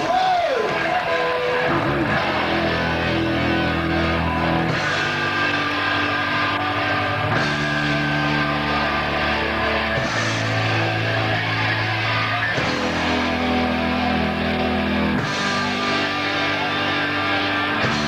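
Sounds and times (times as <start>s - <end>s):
heavy metal band playing live: 0.0s - 18.0s.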